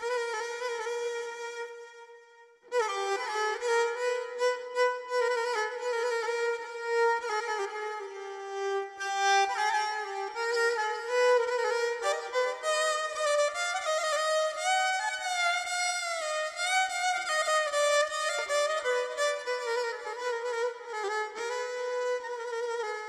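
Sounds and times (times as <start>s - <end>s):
instrumental music with violin: 0.0s - 23.0s.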